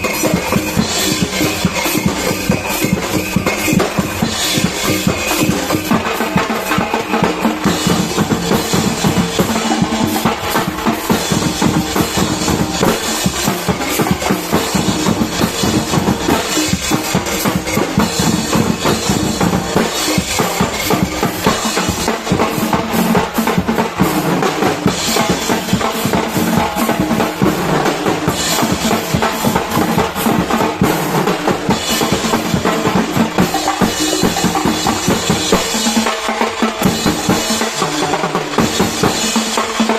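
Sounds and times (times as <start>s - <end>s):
bass drums and snare drums: 0.0s - 39.9s.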